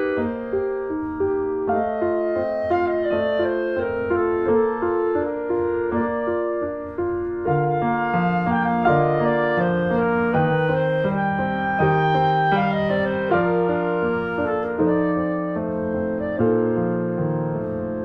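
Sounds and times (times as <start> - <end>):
piano-like melody: 0.0 - 18.0.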